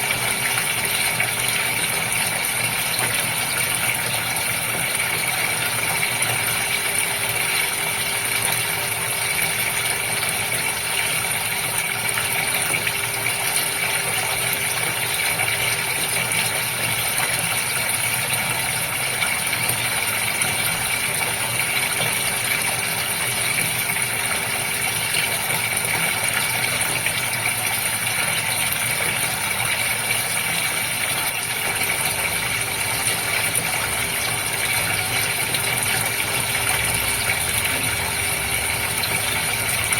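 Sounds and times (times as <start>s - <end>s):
aquarium water pump humming: 0.0s - 39.9s.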